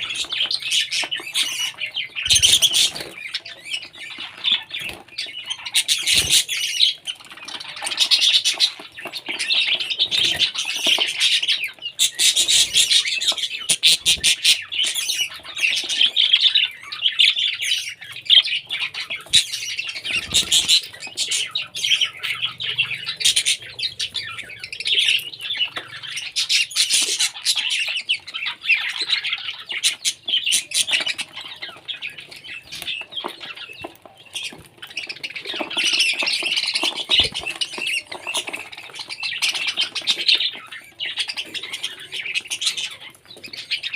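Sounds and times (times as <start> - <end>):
parrot squawking and chirping: 0.0 - 43.9.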